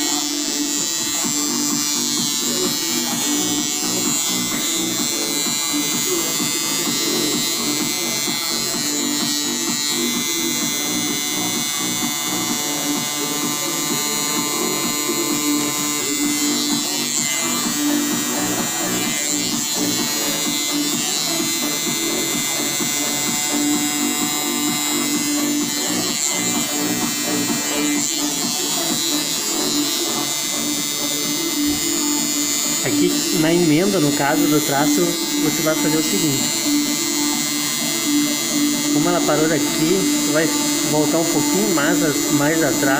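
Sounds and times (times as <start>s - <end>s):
tattoo machine buzzing: 0.0s - 42.9s.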